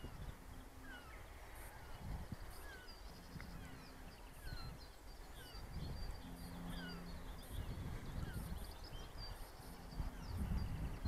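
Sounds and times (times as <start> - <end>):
low steady hum: 0.0 - 11.0
songbirds chirping and trilling: 0.0 - 11.0
wind buffeting microphone: 0.0 - 11.0.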